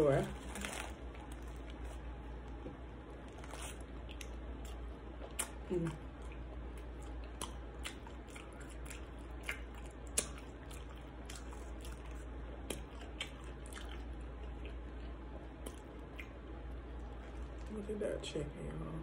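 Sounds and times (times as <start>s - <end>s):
chewing a sandwich: 0.3s - 17.7s.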